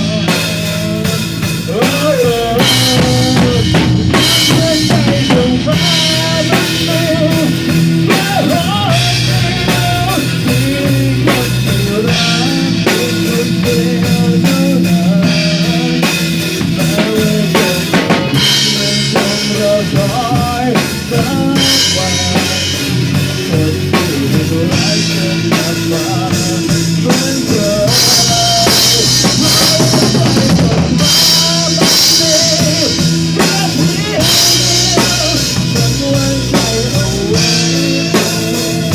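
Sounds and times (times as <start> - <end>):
band playing instrumental: 0.0 - 38.9
drum kit beat: 0.0 - 38.9.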